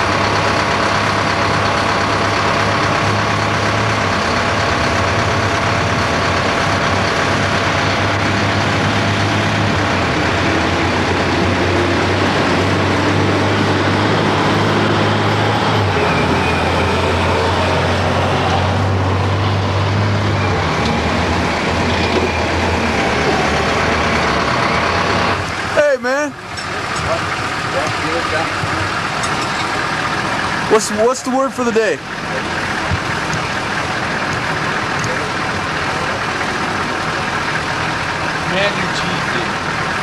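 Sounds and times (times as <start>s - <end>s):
diesel engine drone: 0.0s - 40.0s.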